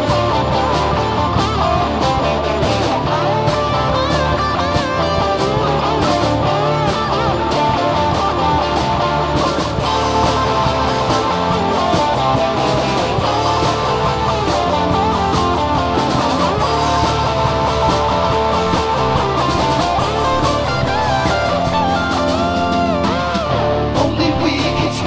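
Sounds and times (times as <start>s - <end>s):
guitar-led rock music: 0.0s - 25.0s.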